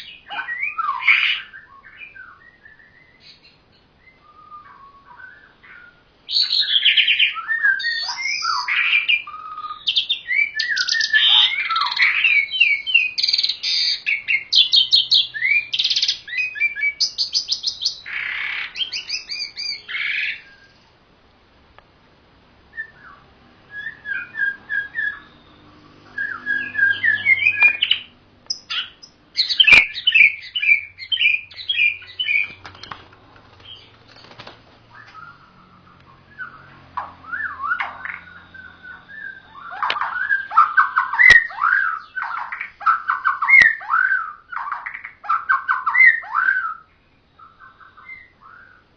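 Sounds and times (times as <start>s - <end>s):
songbirds whistling and chattering: 0.0s - 21.0s, 22.7s - 48.9s.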